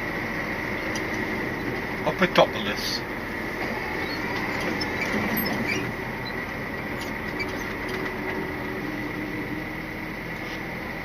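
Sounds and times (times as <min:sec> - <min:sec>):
diesel engine hum: 0:00.0 - 0:11.0.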